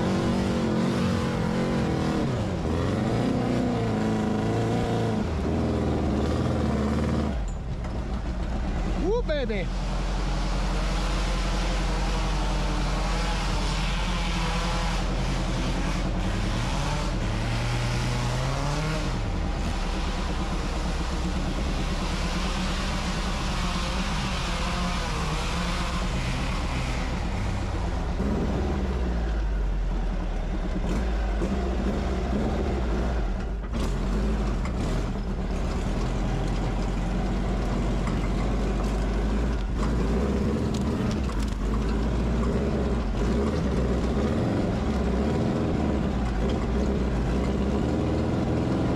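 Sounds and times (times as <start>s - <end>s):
buggy engine running under load: 0.0s - 48.9s.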